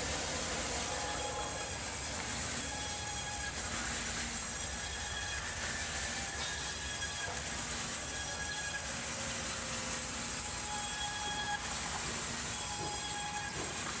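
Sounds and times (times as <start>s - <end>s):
band saws cutting timber: 0.0s - 14.0s.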